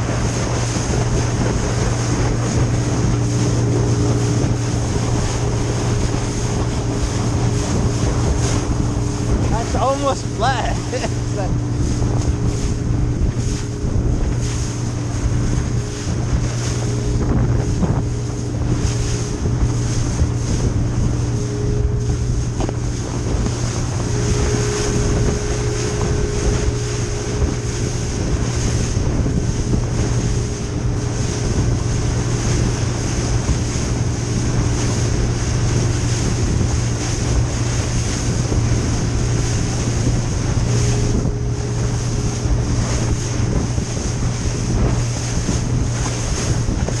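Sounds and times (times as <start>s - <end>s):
motorboat engine droning: 0.0s - 47.0s
water rushing past hull: 0.0s - 47.0s
wind buffeting microphone: 0.0s - 47.0s.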